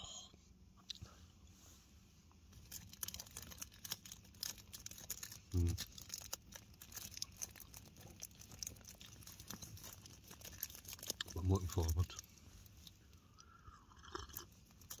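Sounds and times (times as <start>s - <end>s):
person chewing crunchy food: 2.6s - 15.0s.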